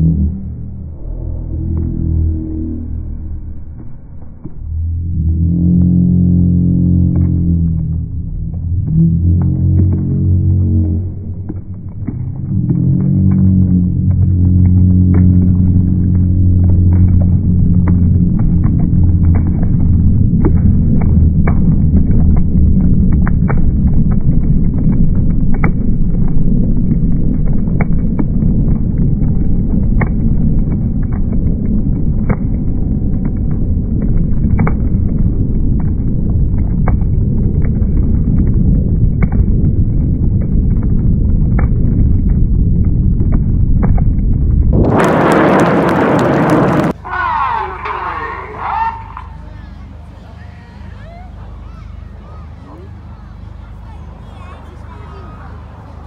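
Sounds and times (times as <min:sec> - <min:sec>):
jet engine rumble with crackles: 0:00.0 - 0:56.0.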